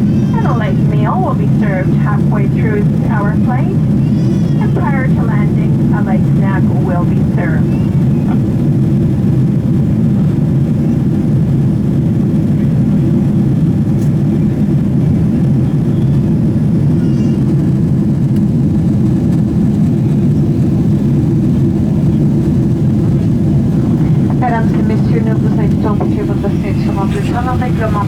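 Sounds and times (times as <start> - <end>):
airplane cabin roar: 0.0 - 28.0.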